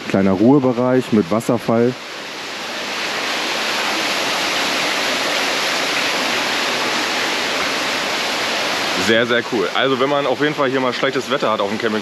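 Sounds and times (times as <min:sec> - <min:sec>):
waterfall splashing into pool: 0:00.3 - 0:12.0.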